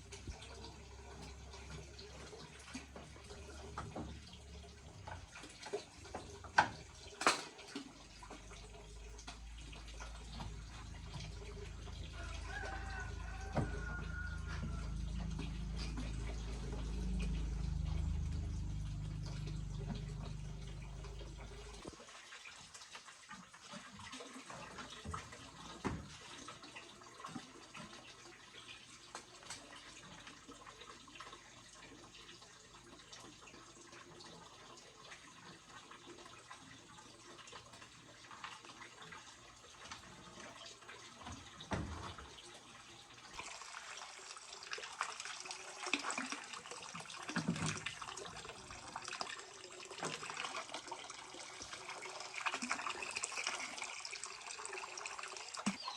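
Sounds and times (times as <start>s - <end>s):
water running and splashing: 0.0s - 55.9s.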